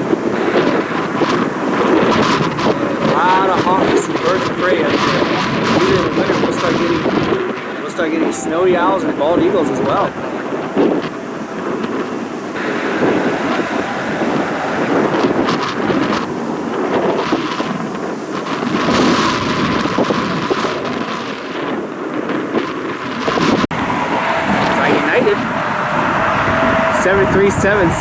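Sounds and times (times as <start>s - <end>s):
gusty wind on microphone: 0.0s - 28.0s.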